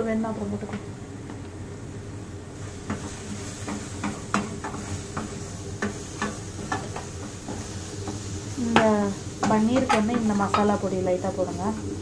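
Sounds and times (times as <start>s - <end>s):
masala sizzling: 0.0s - 12.0s.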